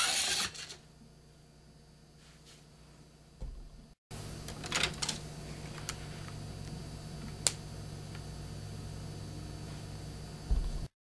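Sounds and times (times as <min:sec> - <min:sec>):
steady low hum: 0:00.8 - 0:10.9.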